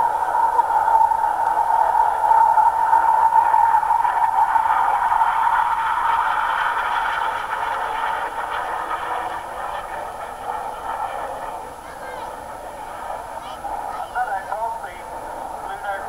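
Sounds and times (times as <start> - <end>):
aircraft engine rushing: 0.0 - 16.0.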